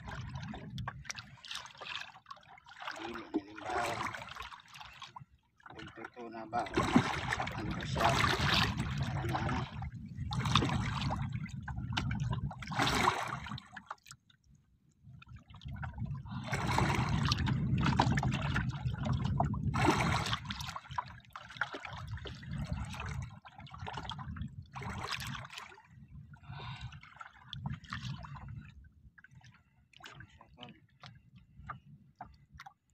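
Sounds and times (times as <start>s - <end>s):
water lapping against boat hull: 0.0s - 32.9s.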